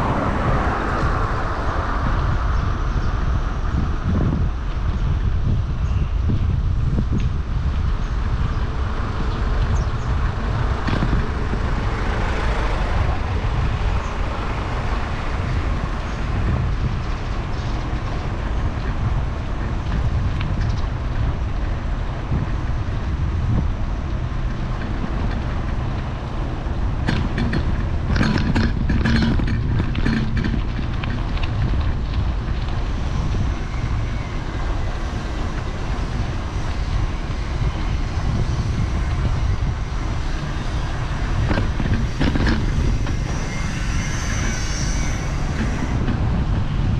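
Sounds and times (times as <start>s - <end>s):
wind and road noise: 0.0s - 46.9s
bike clicks and rattles: 6.3s - 46.9s.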